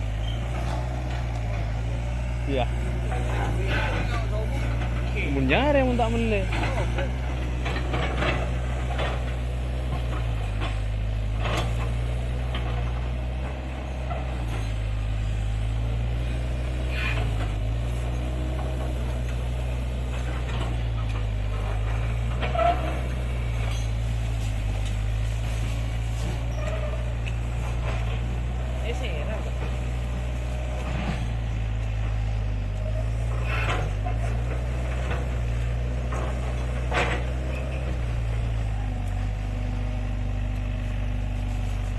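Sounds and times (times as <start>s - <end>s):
diesel engine droning: 0.0s - 41.9s.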